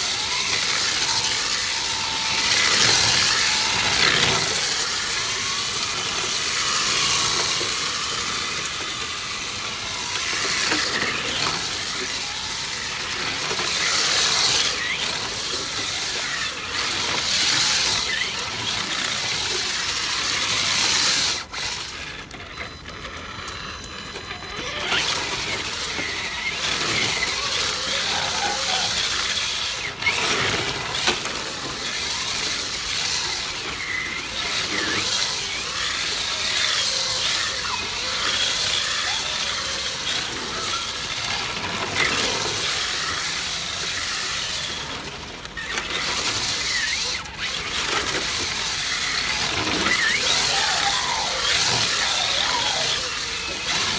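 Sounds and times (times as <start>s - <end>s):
toy car tyres squealing: 0.0s - 53.9s.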